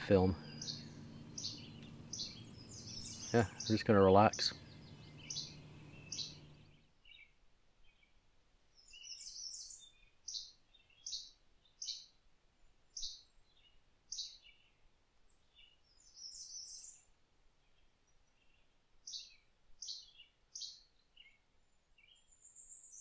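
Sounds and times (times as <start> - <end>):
small bird chirping: 0.0 - 12.2, 12.9 - 23.0.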